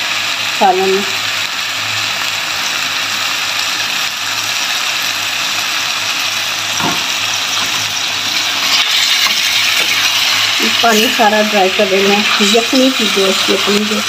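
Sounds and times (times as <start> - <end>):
curry sizzling in oil: 0.0 - 14.0.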